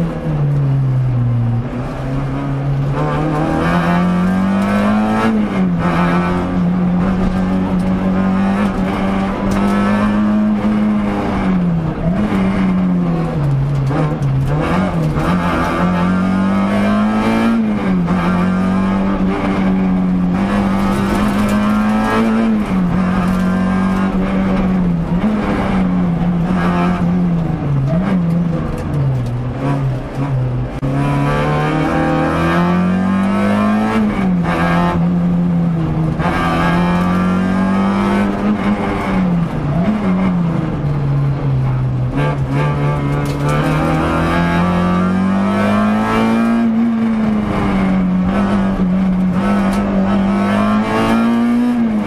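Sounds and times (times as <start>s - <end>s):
rally car engine from inside: 0.0s - 52.0s.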